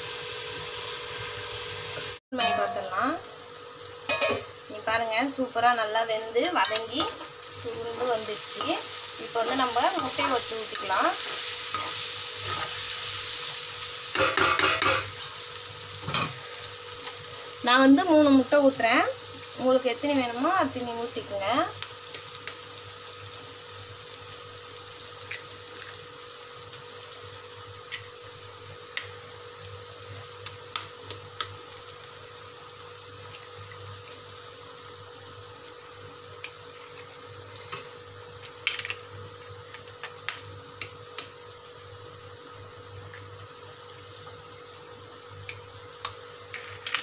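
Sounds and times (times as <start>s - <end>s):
food sizzling in a pan: 0.0s - 47.0s.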